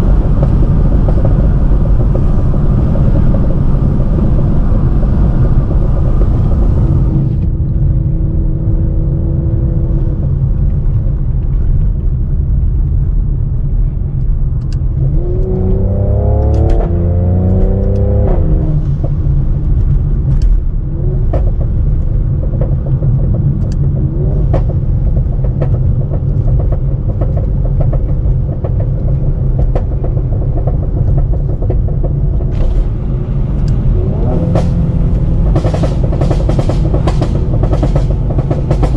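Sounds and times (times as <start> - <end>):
exhaust crackles and pops: 0.0 - 8.5, 9.9 - 38.9
car engine revving: 0.0 - 10.9, 14.7 - 38.9.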